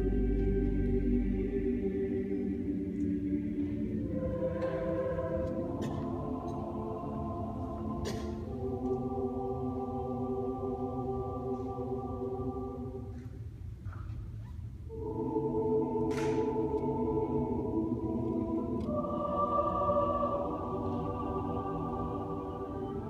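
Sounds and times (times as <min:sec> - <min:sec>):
choir singing sustained chords: 0:00.0 - 0:13.4, 0:14.9 - 0:23.0.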